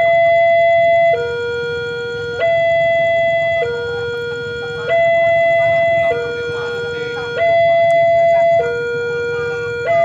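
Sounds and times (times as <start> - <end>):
two-tone crossing alarm: 0.0 - 10.0.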